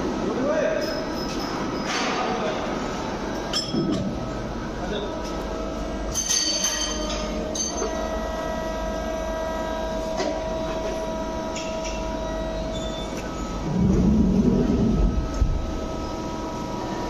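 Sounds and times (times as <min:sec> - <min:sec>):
lathe whining and humming: 0:01.0 - 0:17.0.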